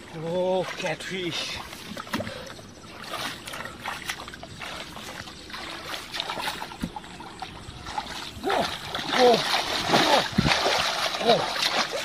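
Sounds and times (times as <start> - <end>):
small water splashes: 0.0 - 12.0
water sloshing and trickling: 0.0 - 12.0.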